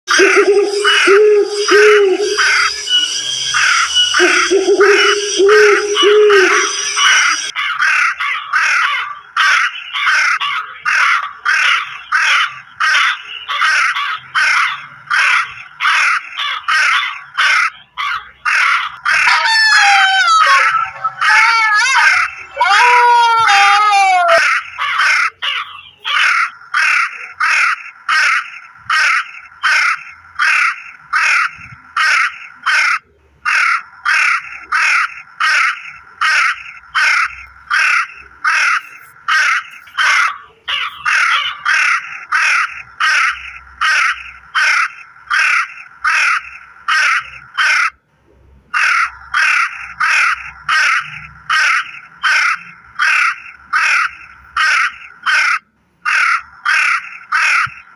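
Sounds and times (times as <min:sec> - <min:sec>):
crow cawing: 0:03.5 - 0:48.0, 0:48.8 - 0:57.9.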